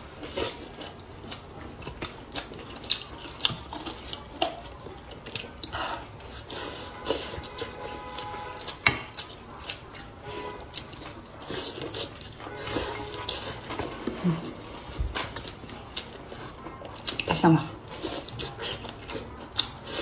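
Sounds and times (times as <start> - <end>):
wet chewing mouth sounds: 0.1 - 20.0.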